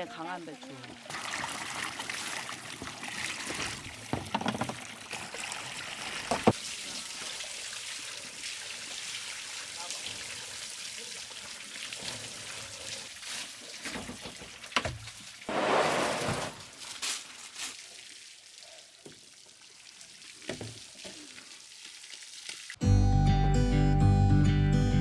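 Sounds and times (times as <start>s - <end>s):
water pouring and trickling: 0.0s - 22.8s.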